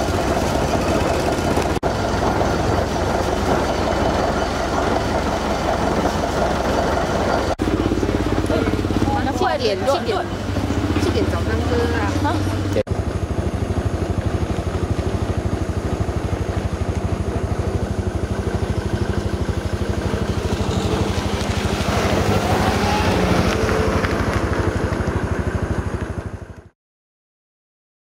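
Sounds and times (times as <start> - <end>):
vehicle engine pulsing: 0.0 - 26.7.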